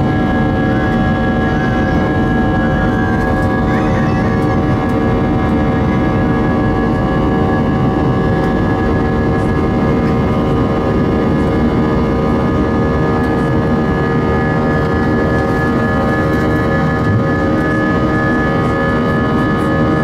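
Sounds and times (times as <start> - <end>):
constant whining tones: 0.0 - 20.0
jet engine and airflow noise: 0.0 - 20.0.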